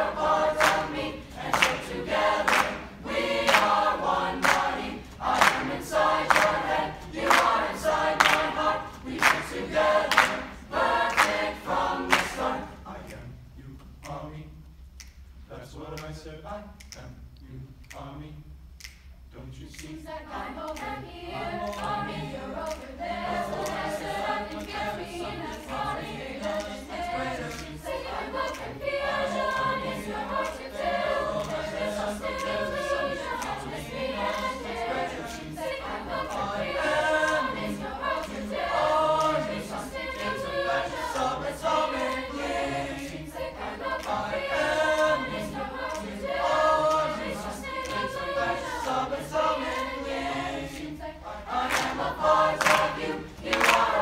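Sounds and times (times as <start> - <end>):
choir singing in harmony: 0.0 - 13.2, 19.6 - 54.0.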